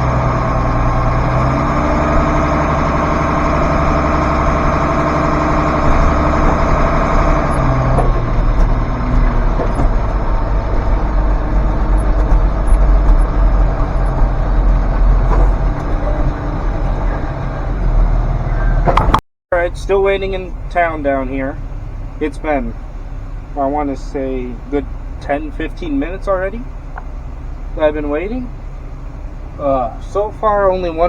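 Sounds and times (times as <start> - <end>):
diesel engine idling: 0.0 - 31.0
steady whine: 0.0 - 31.0.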